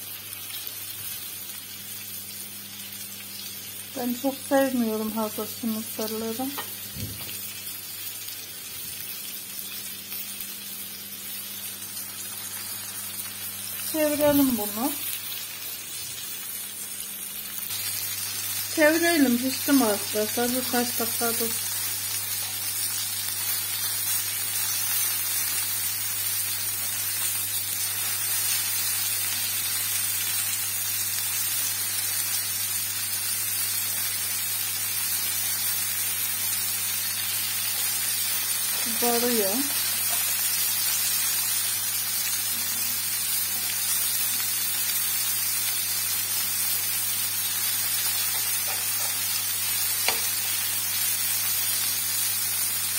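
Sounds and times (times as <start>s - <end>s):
chicken frying in oil: 0.0s - 52.9s.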